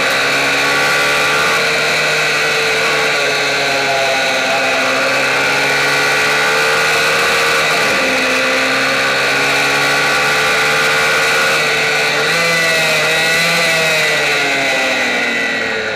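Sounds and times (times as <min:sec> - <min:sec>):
minibike engine at high revs: 0:00.0 - 0:15.9.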